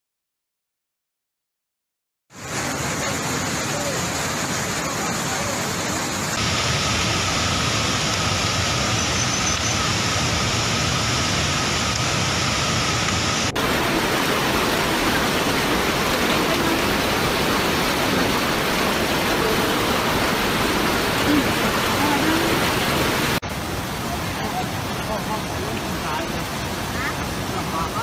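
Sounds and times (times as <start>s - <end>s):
floodwater rushing: 2.4s - 28.0s.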